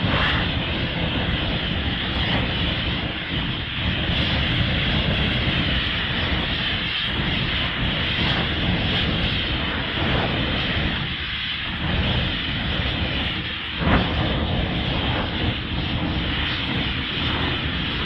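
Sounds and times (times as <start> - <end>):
jet-like roar: 0.0 - 18.0.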